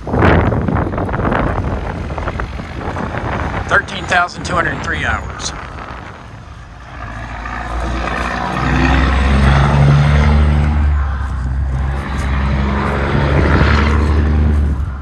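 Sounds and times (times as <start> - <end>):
large engine running: 0.0 - 15.0.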